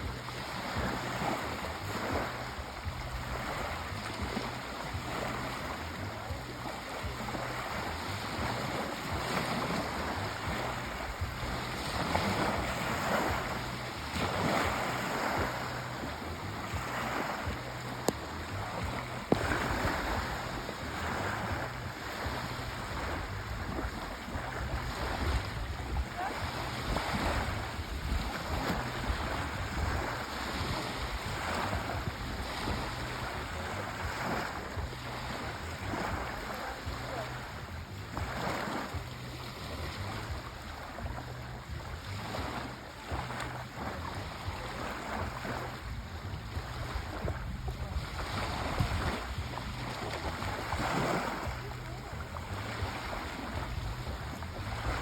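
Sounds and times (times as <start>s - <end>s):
sea waves washing ashore: 0.0s - 55.0s.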